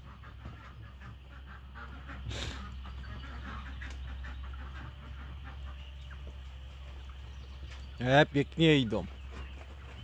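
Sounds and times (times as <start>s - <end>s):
hens clucking: 0.0s - 10.0s
poultry calling: 0.0s - 10.0s.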